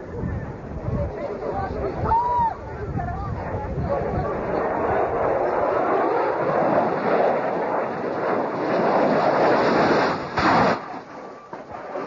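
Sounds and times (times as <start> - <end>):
jet engines roaring past: 0.0 - 12.0.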